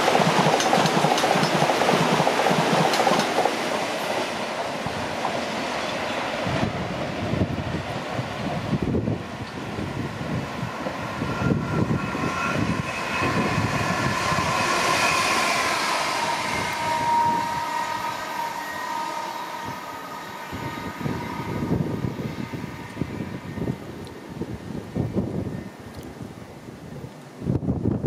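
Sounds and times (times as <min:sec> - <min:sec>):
train passing with whine: 0:00.0 - 0:26.9.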